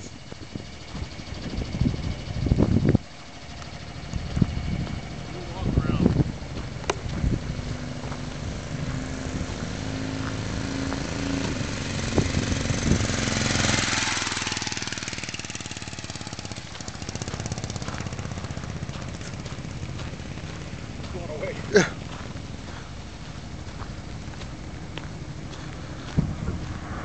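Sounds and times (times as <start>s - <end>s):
motorcycle engine passing by: 0.0s - 27.0s.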